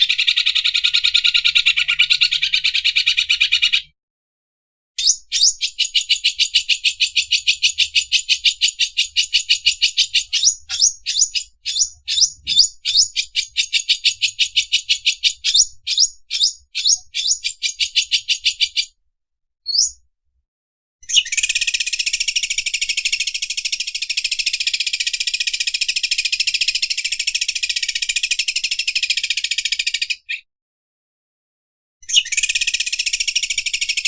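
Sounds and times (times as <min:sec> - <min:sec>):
bird singing with rattling trill: 0:00.0 - 0:03.9, 0:05.0 - 0:19.0, 0:19.7 - 0:20.0, 0:21.0 - 0:30.5, 0:32.0 - 0:34.0.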